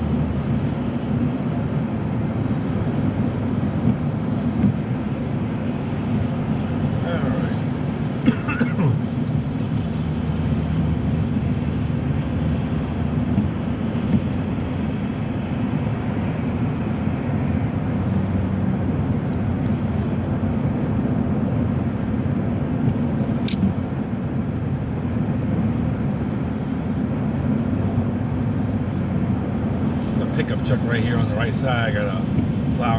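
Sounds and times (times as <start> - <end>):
car road and engine noise: 0.0 - 32.9.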